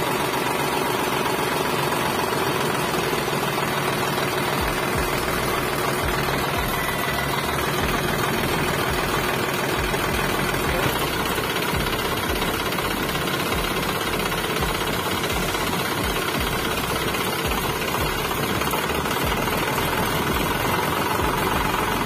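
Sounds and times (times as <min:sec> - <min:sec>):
fast uneven knocking rattle: 0:00.0 - 0:22.0
mini tractor engine running: 0:00.0 - 0:22.0.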